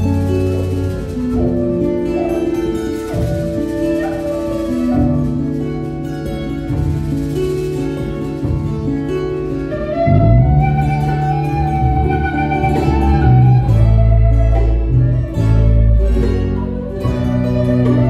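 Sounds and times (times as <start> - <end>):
acoustic guitar: 0.0 - 18.0
bass guitar: 0.0 - 18.0
charango: 0.0 - 18.0
quena flute melody: 0.0 - 18.0.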